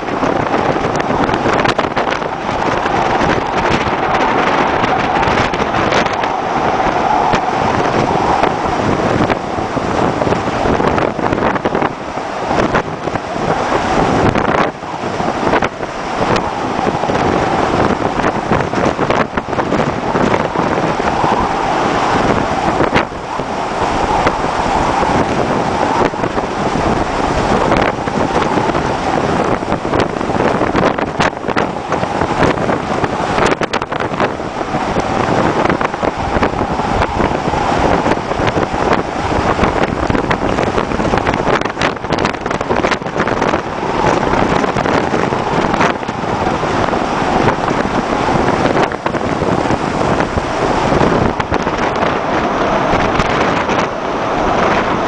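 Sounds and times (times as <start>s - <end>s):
storm wind and breaking waves: 0.0s - 55.0s
wind buffeting microphone: 0.0s - 55.0s.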